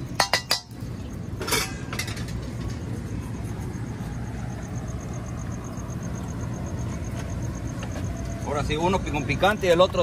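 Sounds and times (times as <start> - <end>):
street background hum: 0.0 - 10.0.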